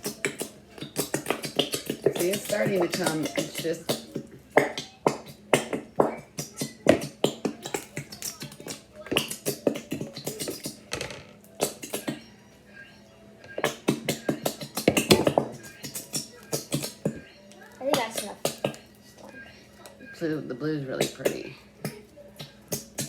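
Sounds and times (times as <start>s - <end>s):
tv background music: 0.0s - 23.0s.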